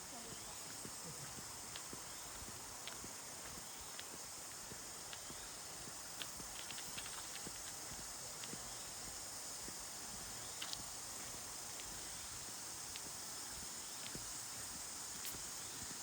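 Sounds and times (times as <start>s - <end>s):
footsteps on a trail: 0.0s - 16.0s
steady high hiss: 0.0s - 16.0s.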